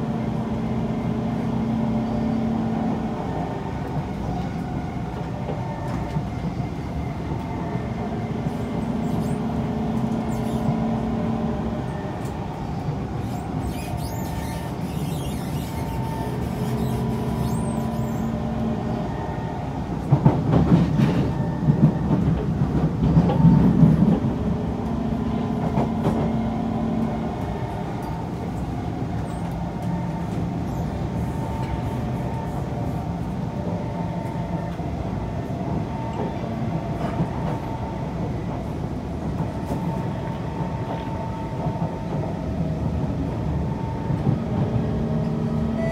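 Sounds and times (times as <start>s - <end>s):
wheels rumbling on track: 0.0s - 45.9s.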